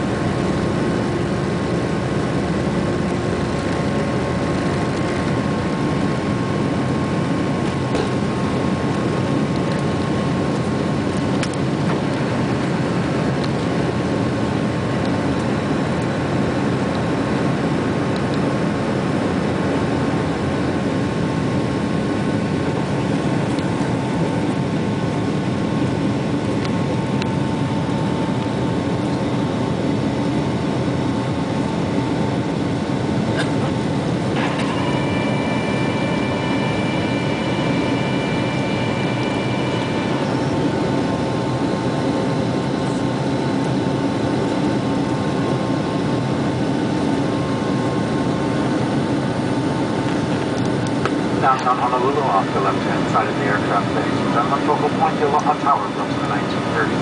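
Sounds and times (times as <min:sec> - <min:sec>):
jet engines roaring in cabin: 0:00.0 - 0:57.0.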